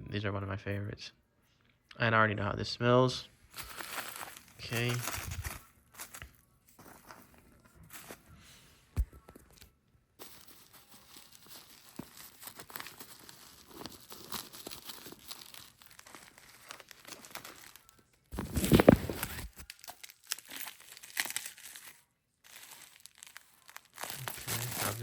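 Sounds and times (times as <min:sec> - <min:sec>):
packaging crinkling and rustling: 0:03.5 - 0:08.4, 0:09.0 - 0:25.0.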